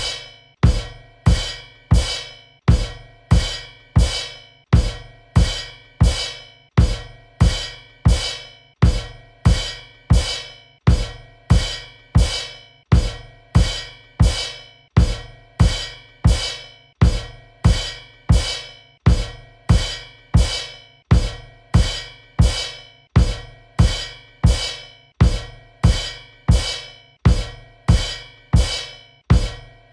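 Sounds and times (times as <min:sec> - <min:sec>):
crash cymbal and bass drum hits: 0:00.0 - 0:29.8.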